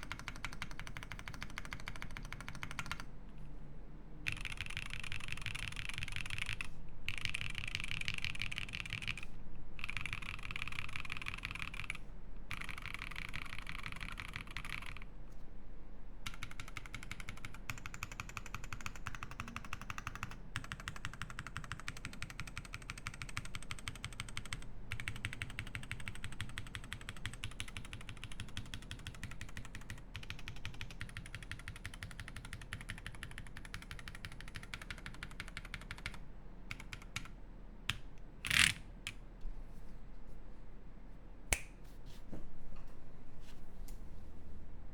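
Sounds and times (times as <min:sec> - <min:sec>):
fast mechanical keyboard typing: 0:00.0 - 0:03.1, 0:04.3 - 0:15.1, 0:16.2 - 0:38.8.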